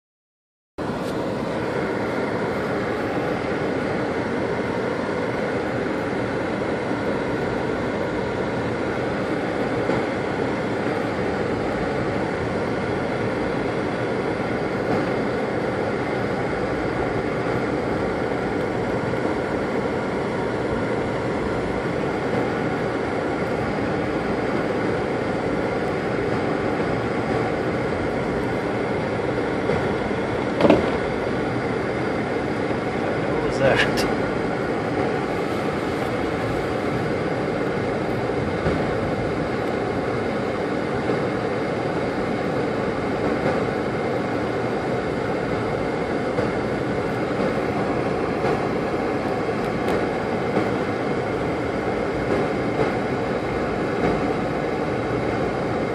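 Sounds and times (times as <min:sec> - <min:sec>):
car engine and tyre noise: 0:00.8 - 0:55.9.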